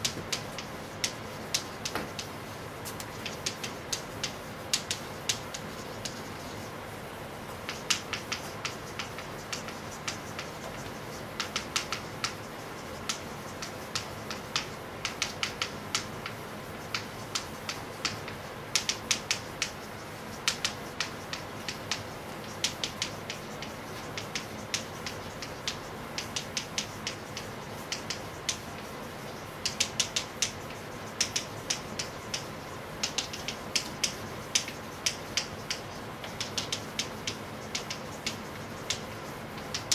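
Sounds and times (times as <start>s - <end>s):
chalk tapping and scraping on blackboard: 0.0s - 39.9s
room hum: 0.0s - 39.9s.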